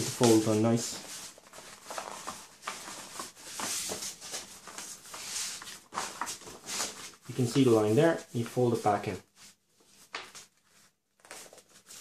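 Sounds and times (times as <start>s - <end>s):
heavy paper rustling and scraping: 0.0s - 12.0s.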